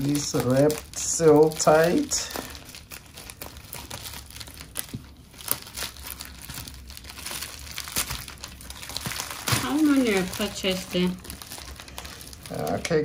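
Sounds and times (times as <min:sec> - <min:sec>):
packaging wrap crinkling: 0:00.0 - 0:13.0.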